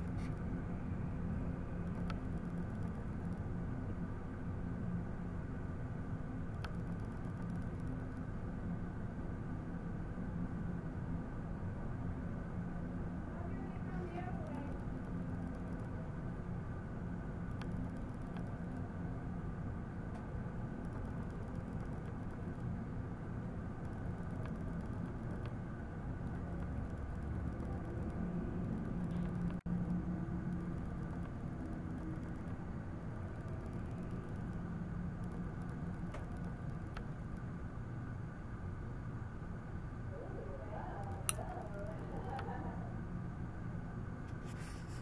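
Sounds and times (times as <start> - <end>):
steady mechanical hum: 0.0 - 45.0.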